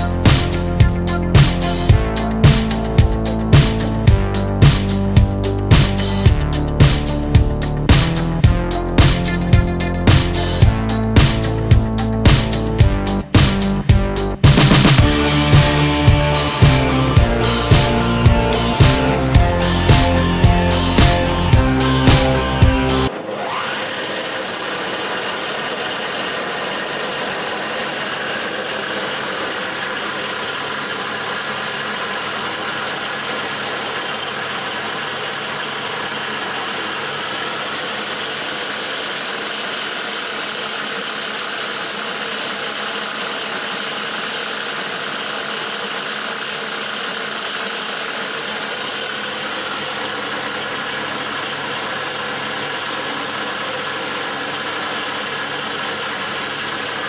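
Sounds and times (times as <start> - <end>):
rip saw machine humming: 0.0 - 57.0.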